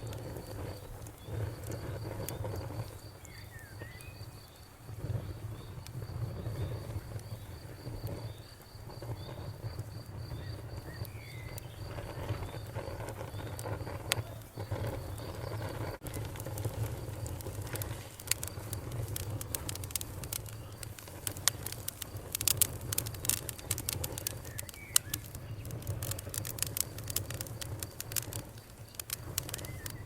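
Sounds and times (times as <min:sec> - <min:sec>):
bonfire crackling: 0:00.0 - 0:30.0
cricket chirping: 0:00.0 - 0:30.0.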